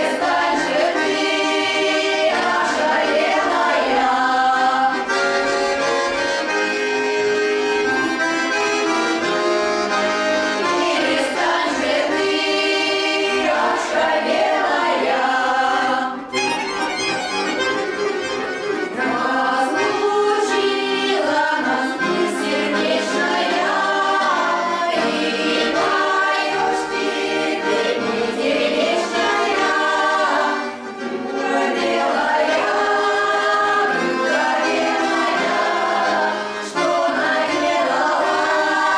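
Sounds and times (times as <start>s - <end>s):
folk choir singing: 0.0s - 7.0s, 7.6s - 16.7s, 18.5s - 38.9s
accordion: 0.0s - 38.9s.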